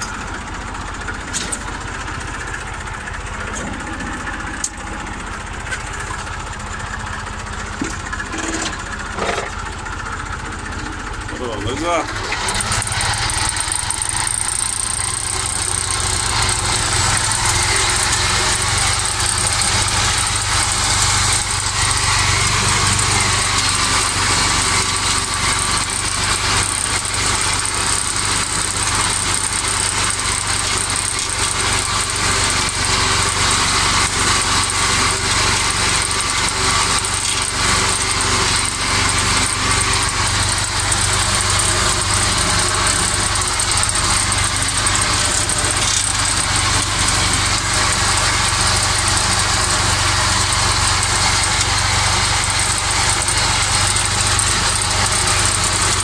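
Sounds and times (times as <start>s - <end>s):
mower cutting grass: 0.0s - 56.0s
tractor diesel engine droning: 0.0s - 56.0s.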